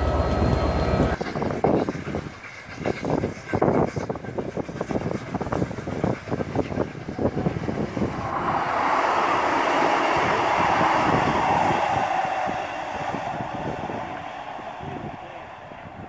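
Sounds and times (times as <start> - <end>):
diesel train passing: 0.0 - 16.0
steam locomotive exhaust beats: 0.0 - 16.0.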